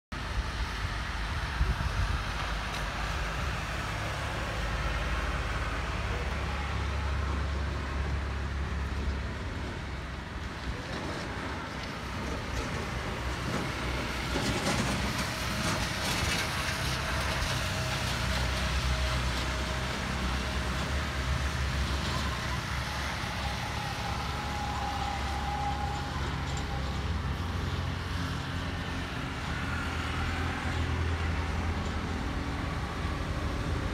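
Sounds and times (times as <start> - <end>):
low traffic rumble: 0.1 - 33.9
cars passing on wet road: 0.2 - 33.9
motorbikes passing: 0.2 - 33.9.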